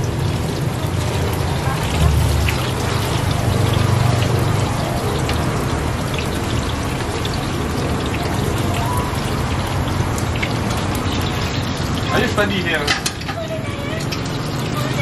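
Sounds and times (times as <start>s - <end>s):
small pops of frying oil: 0.0s - 12.1s, 12.7s - 13.4s, 14.0s - 15.0s
hot oil sizzling: 0.0s - 15.0s.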